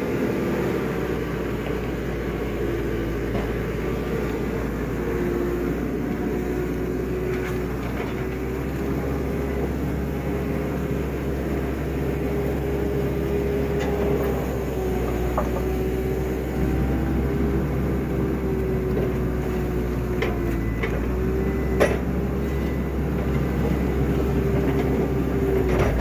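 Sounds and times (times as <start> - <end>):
engine droning steadily: 0.0 - 26.0.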